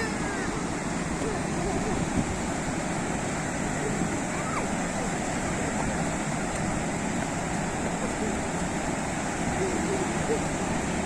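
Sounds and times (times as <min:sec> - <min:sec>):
sea waves washing ashore: 0:00.0 - 0:11.0.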